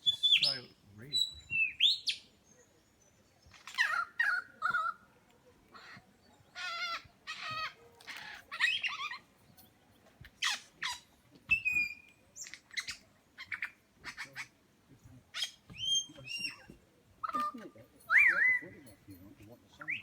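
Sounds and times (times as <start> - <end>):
lyrebird singing: 0.0 - 20.0.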